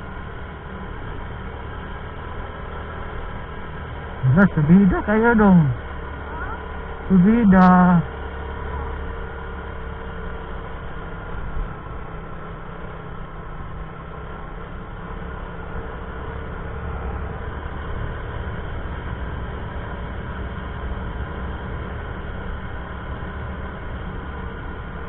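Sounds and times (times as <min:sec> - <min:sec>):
road rumble: 0:00.0 - 0:25.0
wind: 0:00.0 - 0:25.0.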